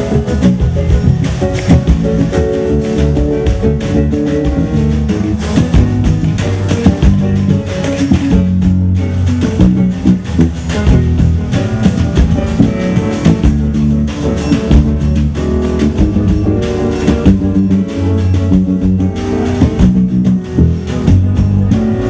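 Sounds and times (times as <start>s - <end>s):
drums and hand percussion: 0.0s - 22.0s
guitar: 0.0s - 22.0s.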